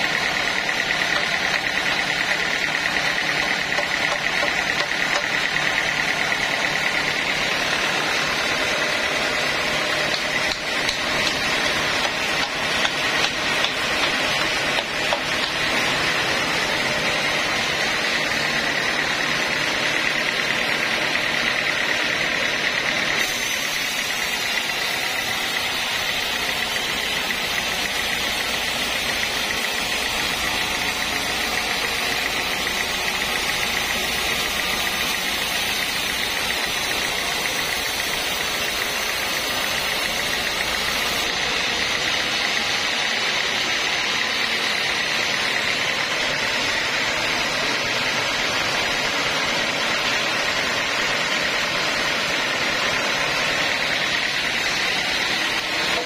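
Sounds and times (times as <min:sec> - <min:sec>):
band saw hissing and whining: 0:00.0 - 0:56.0.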